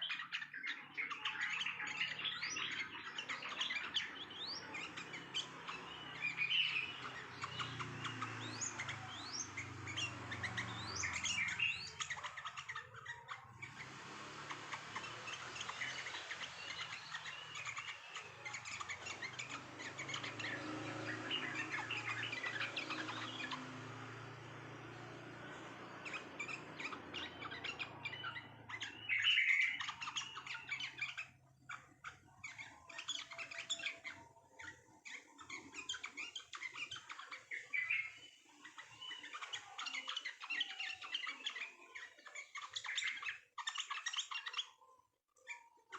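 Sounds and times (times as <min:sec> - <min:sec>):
songbirds chirping and calling: 0:00.0 - 0:45.9.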